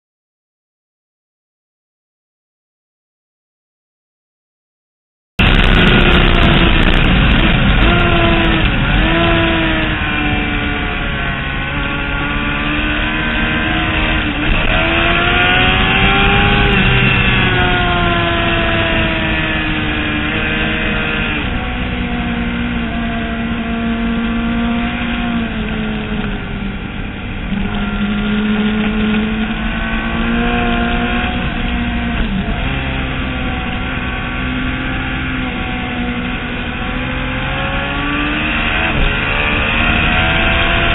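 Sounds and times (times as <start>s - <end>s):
racing motorcycle engine revving: 5.4s - 40.9s.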